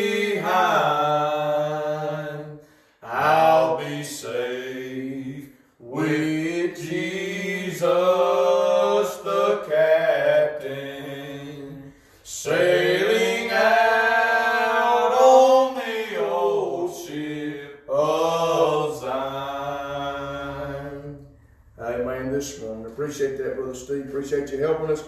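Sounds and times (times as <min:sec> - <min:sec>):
man singing a hymn: 0:00.0 - 0:22.2.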